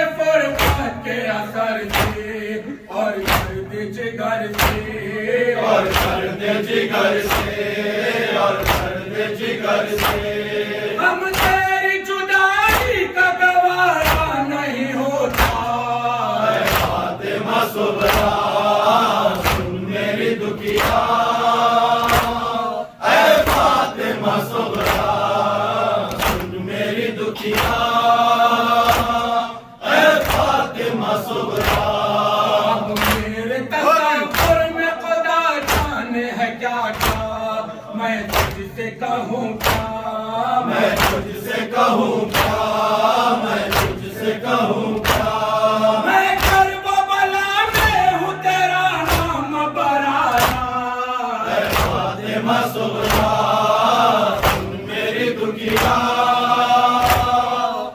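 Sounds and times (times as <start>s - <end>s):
men chanting in unison: 0.0s - 57.9s.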